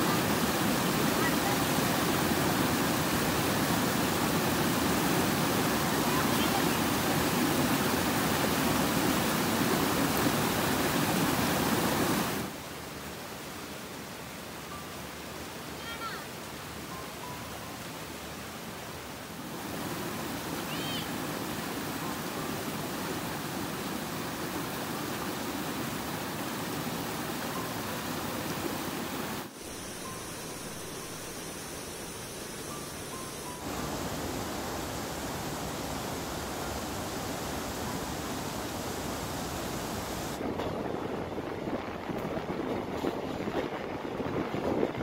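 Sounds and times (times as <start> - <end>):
waterfall rushing: 0.0 - 40.5.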